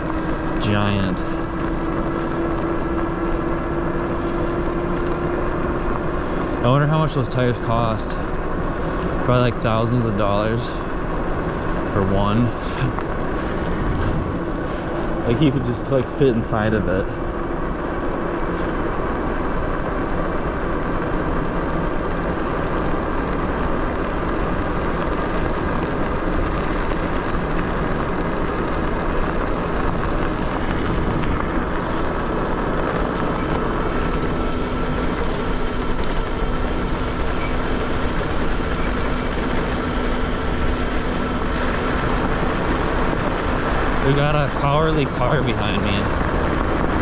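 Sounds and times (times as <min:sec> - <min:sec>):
faint electric motor whine: 0:00.0 - 0:47.0
wind and road noise: 0:00.0 - 0:47.0.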